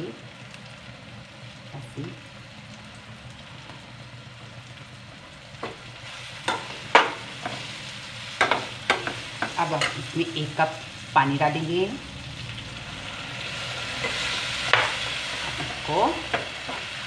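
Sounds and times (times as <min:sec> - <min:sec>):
masala sizzling in a pan: 0:00.0 - 0:17.0.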